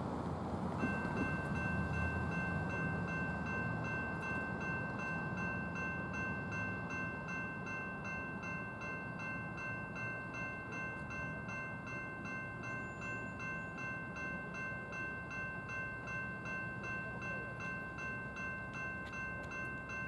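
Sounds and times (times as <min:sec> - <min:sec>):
freight train rumbling: 0:00.0 - 0:20.0
crossing bell ringing: 0:00.7 - 0:20.0.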